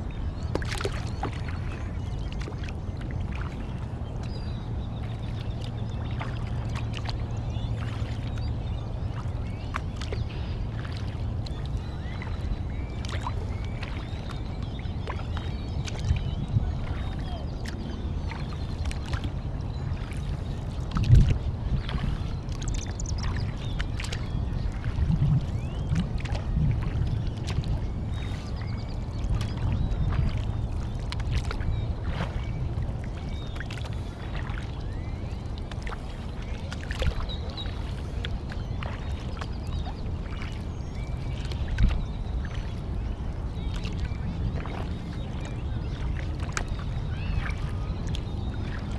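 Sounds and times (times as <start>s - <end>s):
paddle splashing water: 0.0s - 4.3s, 5.0s - 8.5s, 9.1s - 48.9s.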